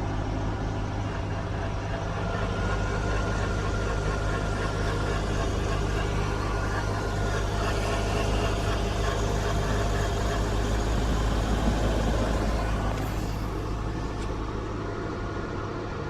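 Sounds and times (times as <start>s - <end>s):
electronic whine: 0.0s - 14.8s
car engine idling: 0.0s - 16.0s.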